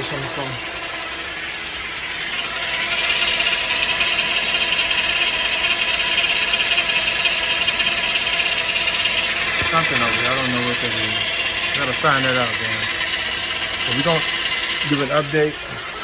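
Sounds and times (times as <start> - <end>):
car engine idling: 0.0 - 16.0
small rattle: 0.0 - 16.0
steady high whine: 0.0 - 16.0.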